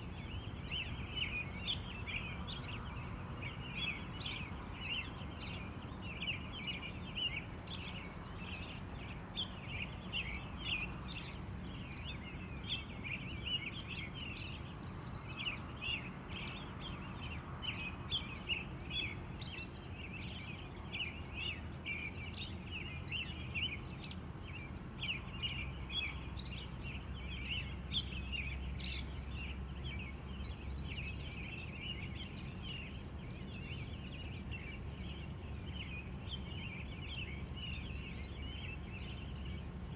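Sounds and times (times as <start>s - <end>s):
insect trill: 0.0s - 39.9s
birds chirping: 0.1s - 39.9s.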